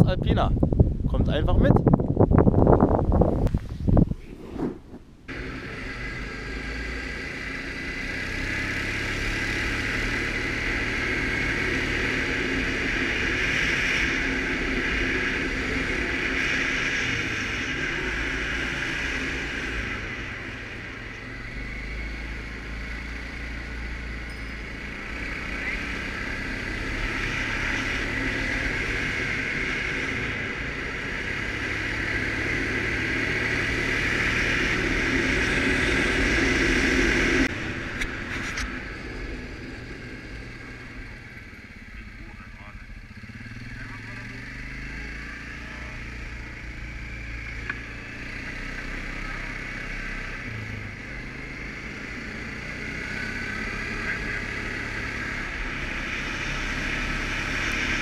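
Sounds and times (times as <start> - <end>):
atv engine running: 5.3 - 58.0.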